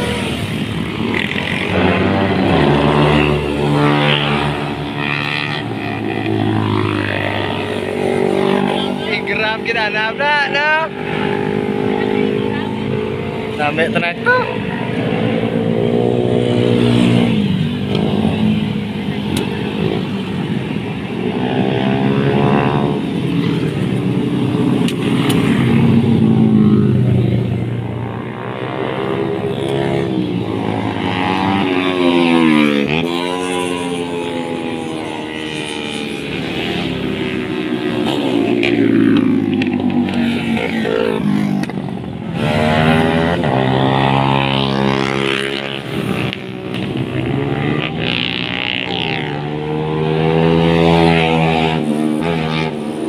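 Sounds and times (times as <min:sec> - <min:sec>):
motorcycles riding past: 0:00.0 - 0:53.0.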